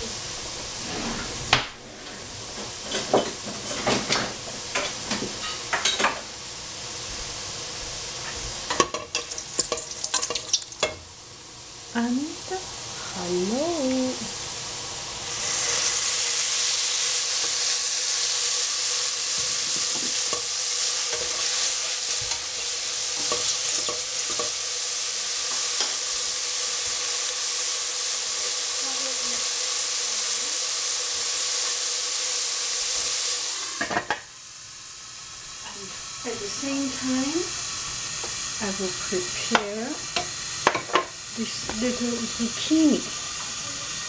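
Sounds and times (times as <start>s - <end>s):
mushrooms sizzling in a pan: 0.0s - 44.0s.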